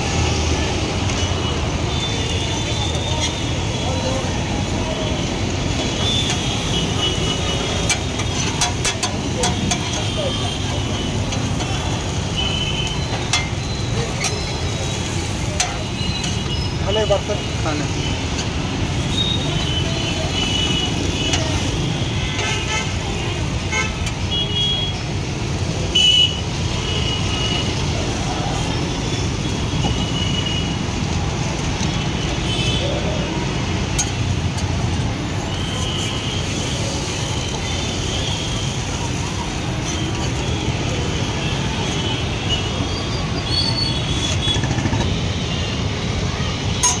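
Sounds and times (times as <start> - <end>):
street traffic rumble: 0.0 - 47.0.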